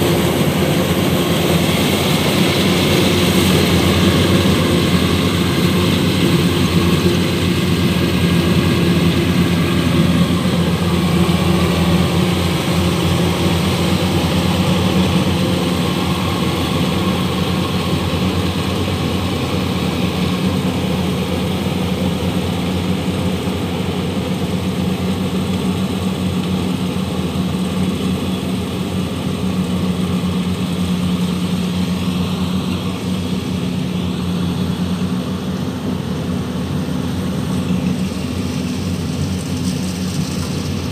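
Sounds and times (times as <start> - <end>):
combine harvester engine hum: 0.0 - 40.9.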